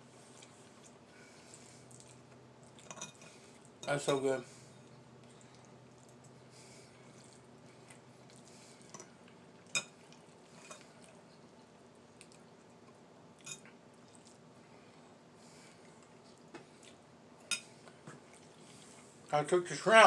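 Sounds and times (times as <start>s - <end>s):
quiet chewing: 0.1s - 3.8s, 4.7s - 19.3s.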